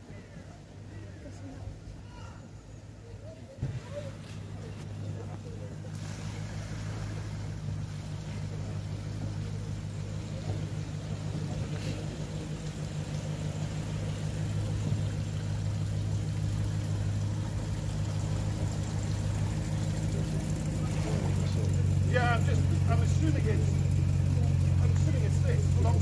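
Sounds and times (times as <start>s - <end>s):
car engine driving through water: 3.6s - 26.0s.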